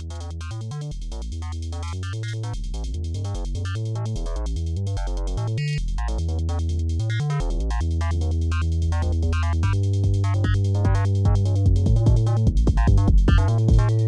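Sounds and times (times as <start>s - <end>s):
deep bass line: 0.0s - 14.0s
drum machine ticking: 0.0s - 14.0s.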